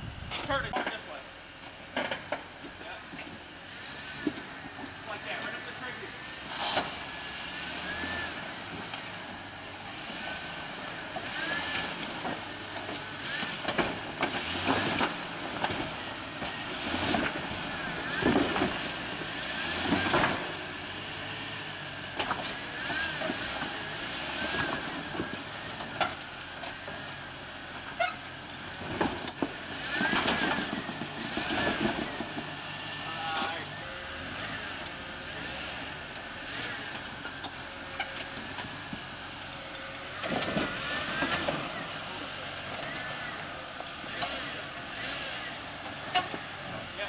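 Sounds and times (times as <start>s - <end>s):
engine straining under load: 0.0s - 47.0s.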